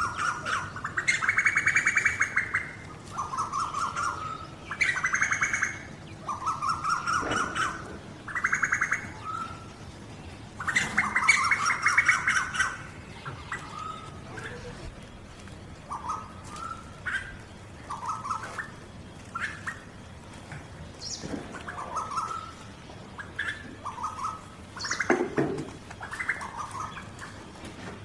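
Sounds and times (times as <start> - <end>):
koels calling in bubbling trills: 0.0 - 20.4, 21.0 - 27.6.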